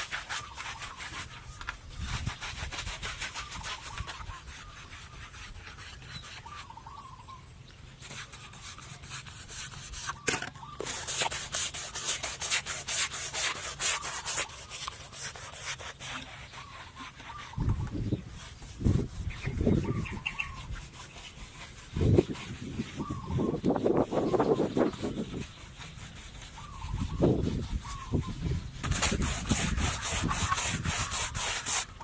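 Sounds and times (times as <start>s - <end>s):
hand tool rasping wood: 0.0s - 6.7s, 7.9s - 32.0s.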